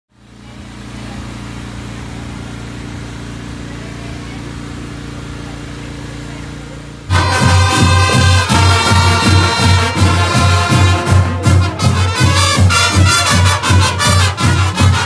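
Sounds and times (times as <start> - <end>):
engine idling: 0.2 - 15.0.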